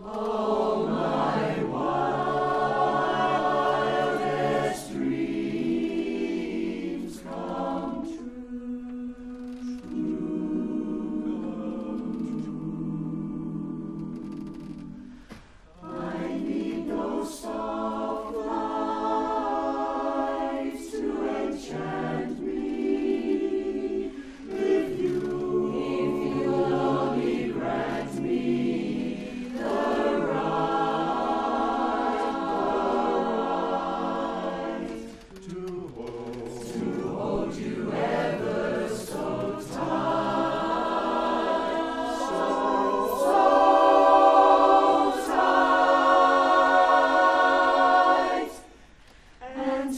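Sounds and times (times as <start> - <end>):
barbershop chorus singing a cappella: 0.0 - 49.9.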